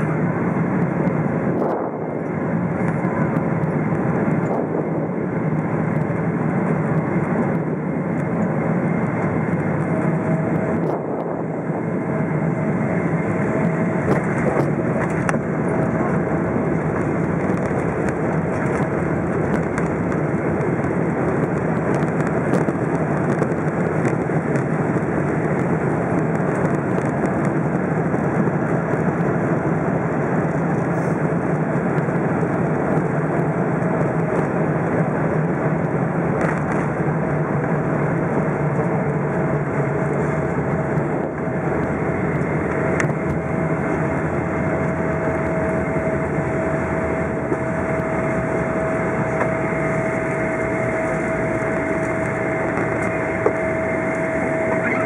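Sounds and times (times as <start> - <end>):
jet engine and airflow roar: 0.0 - 55.0.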